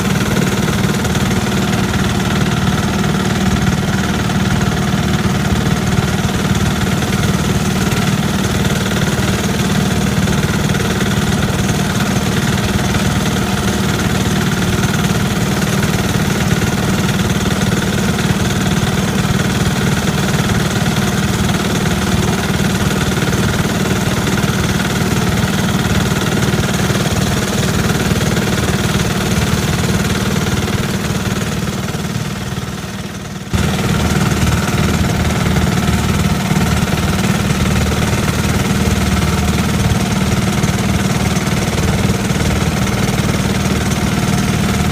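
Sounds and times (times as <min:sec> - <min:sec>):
small tractor engine running: 0:00.0 - 0:44.9.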